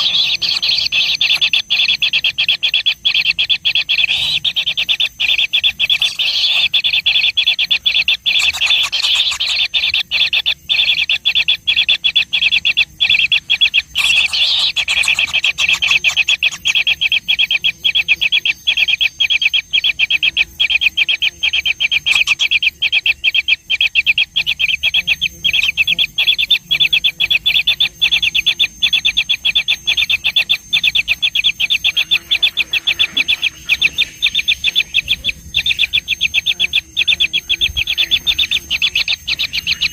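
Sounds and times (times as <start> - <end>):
baby birds begging calls: 0.0 - 39.9.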